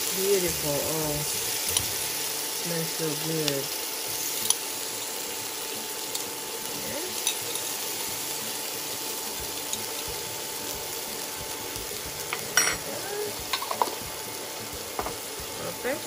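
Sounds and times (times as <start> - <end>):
onions and mushrooms sizzling in oil: 0.0 - 16.0.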